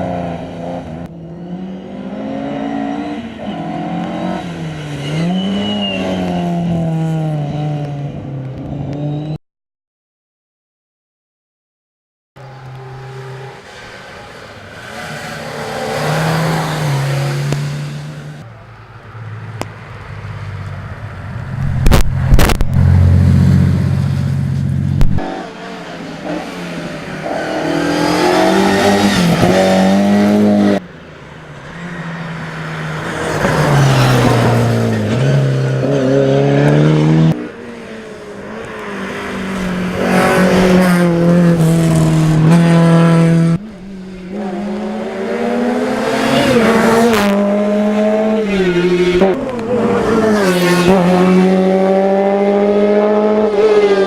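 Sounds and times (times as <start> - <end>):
rally car engines revving: 0.0 - 9.4, 12.4 - 18.5, 21.1 - 54.0.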